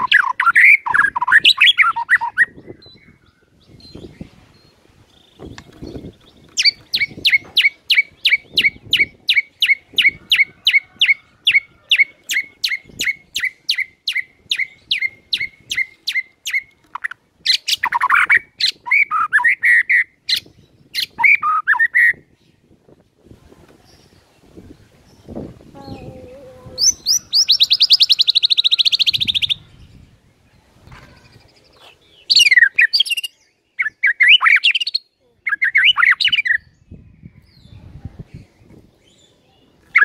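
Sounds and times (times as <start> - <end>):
songbird singing sharp notes: 0.0 - 22.8, 23.8 - 40.0.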